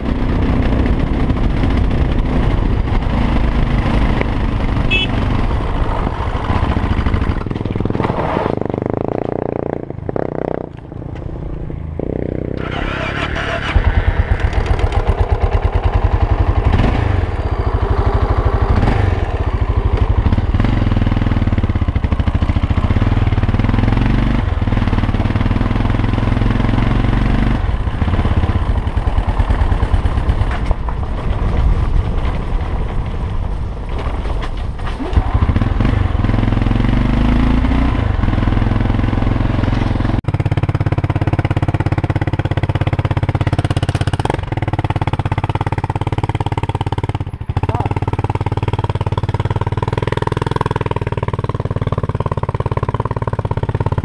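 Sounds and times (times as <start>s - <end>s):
motorcycle engine running: 0.0s - 33.6s, 35.0s - 54.0s.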